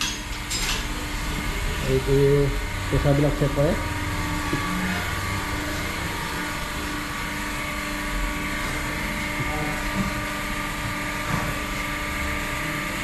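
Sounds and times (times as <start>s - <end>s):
machine drone with steady tones: 0.0s - 13.0s.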